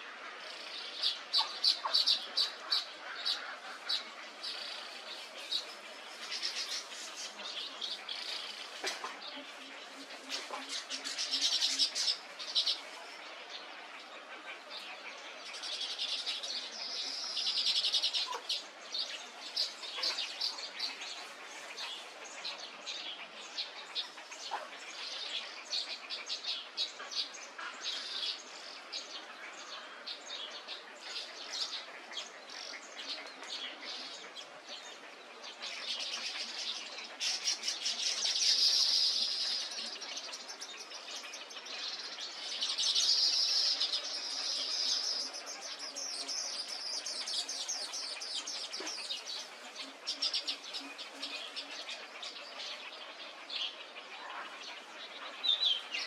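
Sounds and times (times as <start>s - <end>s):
birds chirping and chattering: 0.0s - 56.0s.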